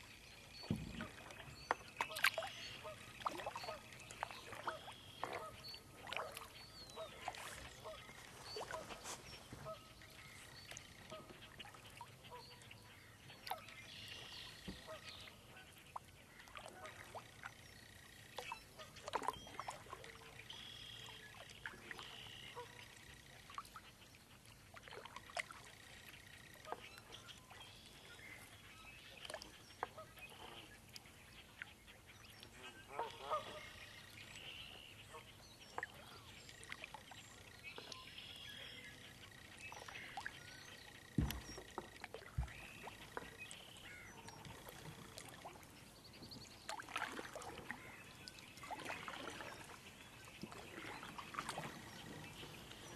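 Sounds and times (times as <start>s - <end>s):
paddle dripping and knocking in water: 0.4s - 12.7s, 13.4s - 34.4s, 39.2s - 52.9s
bird calls: 0.4s - 23.2s, 25.7s - 52.9s.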